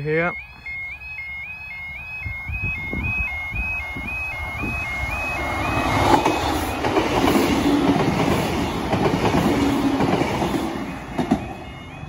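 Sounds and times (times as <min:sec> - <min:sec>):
two-tone crossing alarm: 0:00.0 - 0:12.0
diesel train running past: 0:00.3 - 0:12.0.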